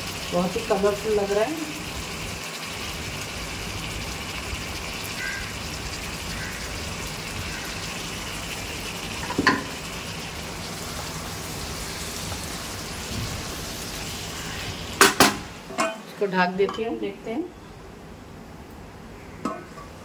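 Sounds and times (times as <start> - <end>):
food sizzling in wok: 0.0 - 17.2.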